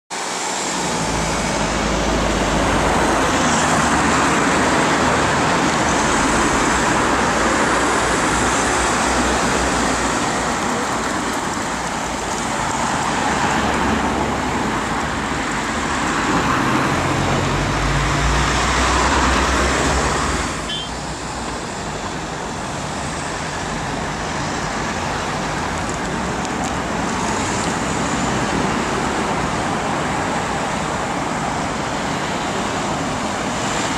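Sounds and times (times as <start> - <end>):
cars passing: 0.1 - 33.9.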